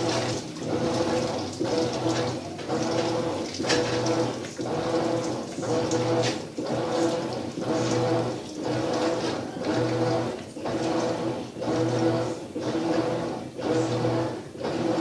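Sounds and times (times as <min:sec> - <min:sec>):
water swishing: 0:00.0 - 0:13.3
washing machine motor humming: 0:00.0 - 0:15.0.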